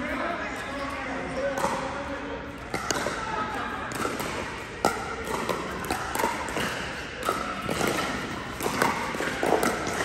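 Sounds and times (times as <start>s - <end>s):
ball bouncing on court: 0.8s - 10.0s
paddles hitting plastic ball: 1.4s - 10.0s.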